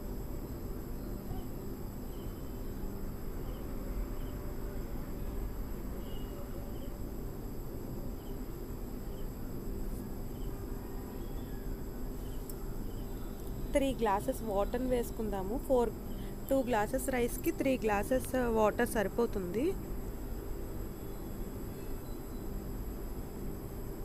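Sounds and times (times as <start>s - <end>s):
faint cricket chirps: 0.0s - 24.0s
steady low hum: 0.0s - 24.0s.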